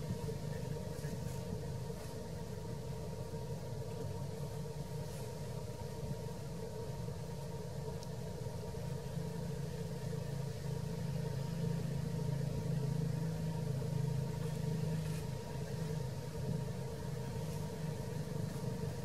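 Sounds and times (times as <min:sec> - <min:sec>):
faint steady whine: 0:00.0 - 0:19.0
low engine drone: 0:00.0 - 0:19.0.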